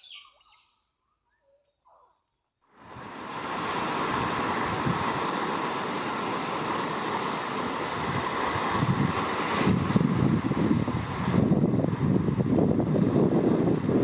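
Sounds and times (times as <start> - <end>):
surf washing over rocks: 2.7 - 14.0.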